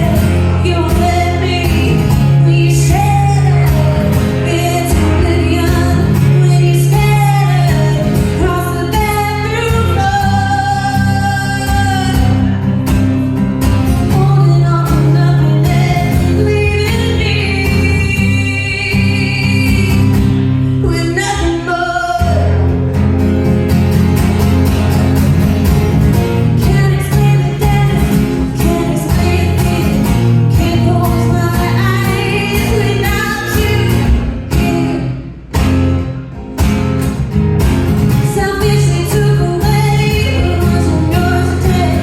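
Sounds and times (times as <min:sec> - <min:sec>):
woman singing: 0:00.0 - 0:22.7, 0:26.5 - 0:35.4, 0:38.1 - 0:42.0
guitar accompaniment: 0:00.0 - 0:42.0.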